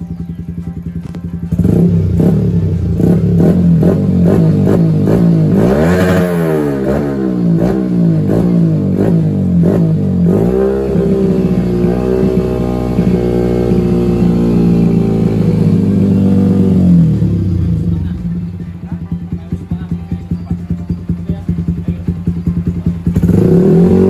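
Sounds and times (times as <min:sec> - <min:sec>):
motorcycle engine idling: 0:00.0 - 0:24.0
motorcycle engine revving: 0:00.0 - 0:24.0.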